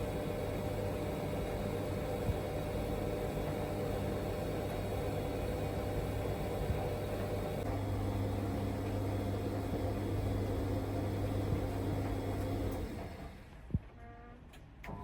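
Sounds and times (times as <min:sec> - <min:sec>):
washing machine spinning: 0:00.0 - 0:13.5.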